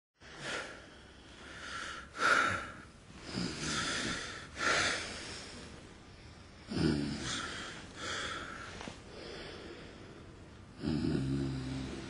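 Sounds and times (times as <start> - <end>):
man breathing noisily: 0.2 - 10.6.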